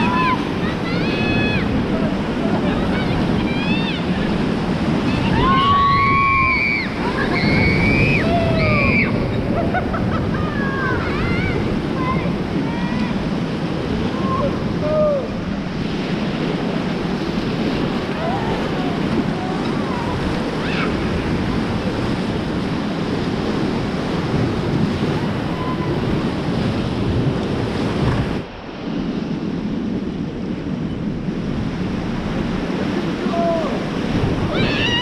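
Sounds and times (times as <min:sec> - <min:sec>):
whitewater rushing and splashing: 0:00.0 - 0:35.0
wind buffeting microphone: 0:00.0 - 0:35.0.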